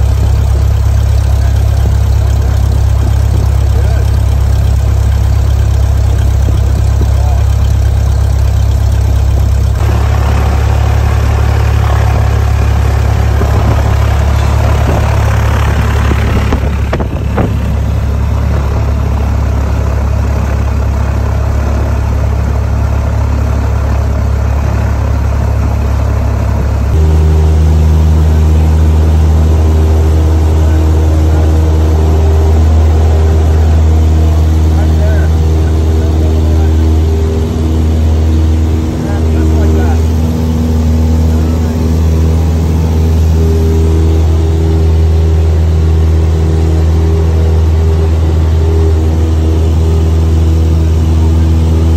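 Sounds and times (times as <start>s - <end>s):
propeller plane engine drone: 0.0s - 51.9s.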